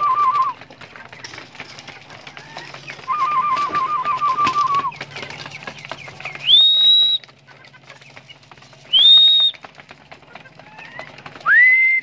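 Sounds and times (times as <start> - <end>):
pigeons pecking grain: 0.0 - 12.0.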